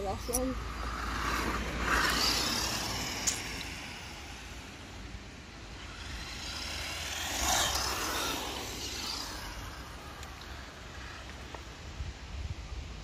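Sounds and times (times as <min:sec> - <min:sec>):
toy truck electric motor and tyres: 0:00.0 - 0:12.8.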